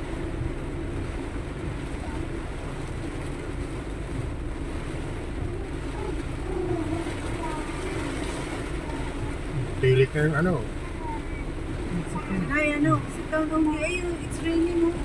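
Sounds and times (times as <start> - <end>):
road noise: 0.0 - 15.0
vehicle engine rumble: 0.0 - 15.0.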